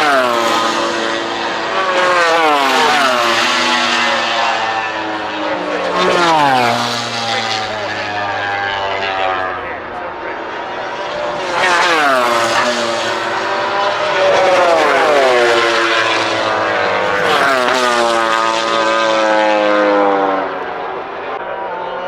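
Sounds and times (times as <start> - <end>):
race motorbikes passing at speed: 0.0 - 22.0.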